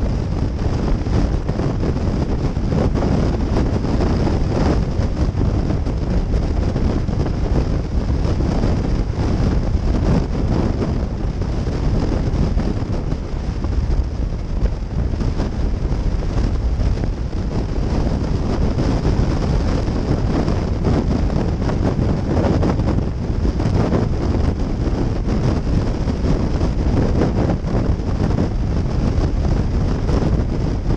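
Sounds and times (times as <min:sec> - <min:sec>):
road noise: 0:00.0 - 0:30.9
wind rushing over microphone: 0:00.0 - 0:30.9.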